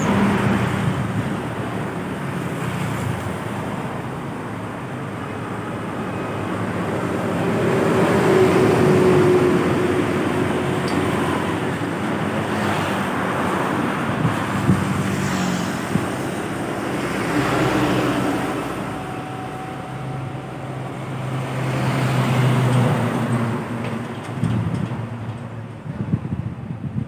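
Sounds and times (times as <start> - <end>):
heavy vehicles passing: 0.0 - 27.0.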